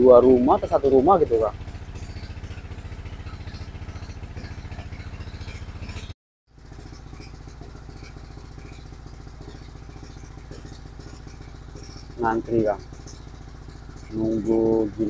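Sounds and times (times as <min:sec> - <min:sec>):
machine engine chugging: 0:00.0 - 0:15.0.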